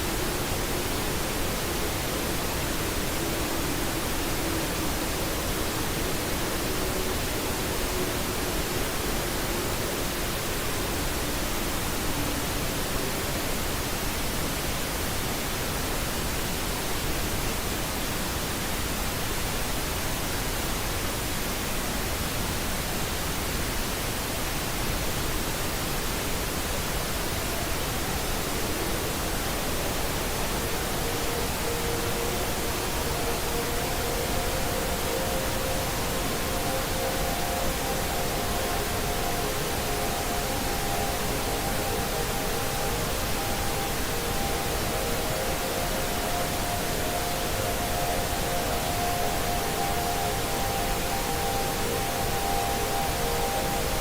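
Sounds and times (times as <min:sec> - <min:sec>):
faint steady tones: 0:00.0 - 0:18.3, 0:25.2 - 0:54.0
static hiss: 0:00.0 - 0:54.0.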